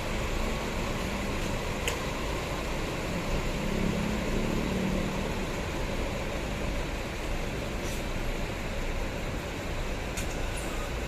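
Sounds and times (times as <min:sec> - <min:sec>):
diesel bus engines rumbling: 0:00.0 - 0:11.0.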